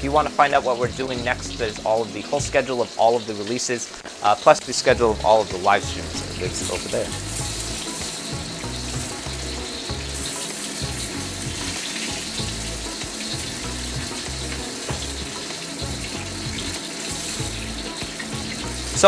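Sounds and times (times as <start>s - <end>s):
lo-fi music with bass line: 0.0s - 2.8s, 4.7s - 19.0s
meatballs sizzling in oil: 0.1s - 19.0s.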